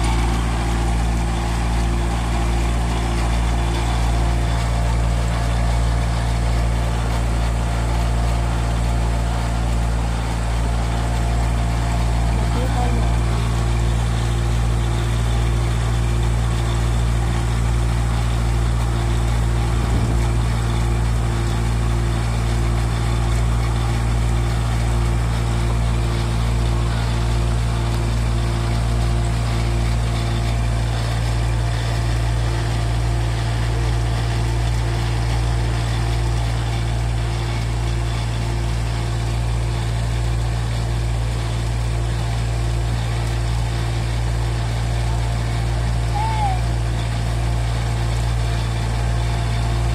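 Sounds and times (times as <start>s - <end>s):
auger boring into soil: 0.0s - 49.9s
diesel tractor engine under load: 0.0s - 49.9s.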